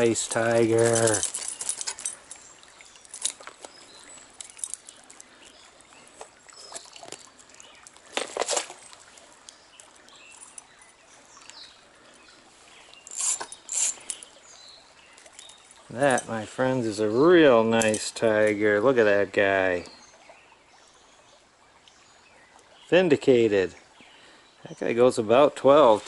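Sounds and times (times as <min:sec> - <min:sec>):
stream water trickling: 0:00.0 - 0:26.0
water splashes: 0:00.0 - 0:26.0.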